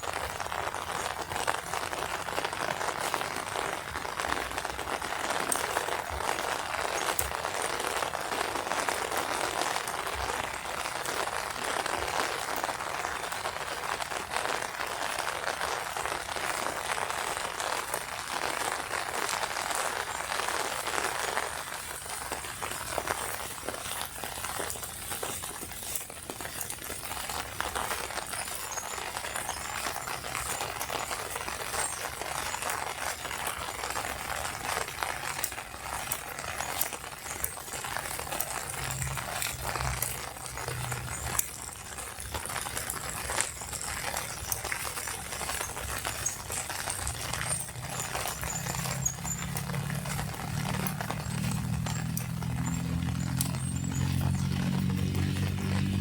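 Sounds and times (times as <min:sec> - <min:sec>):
rain hissing: 0:00.0 - 0:56.0
raindrops tapping on umbrella: 0:00.0 - 0:56.0.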